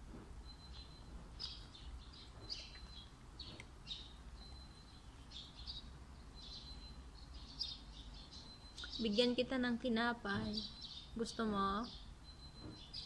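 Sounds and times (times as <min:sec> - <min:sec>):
bird chirping: 0:00.4 - 0:09.5, 0:10.2 - 0:13.0.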